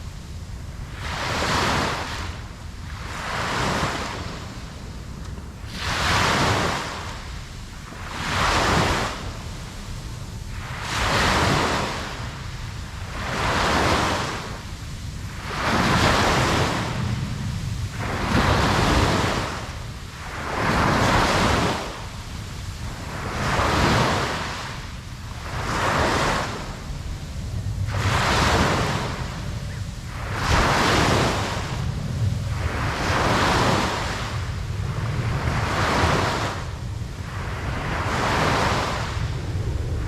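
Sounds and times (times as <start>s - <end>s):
ocean surf washing: 0.0s - 40.0s.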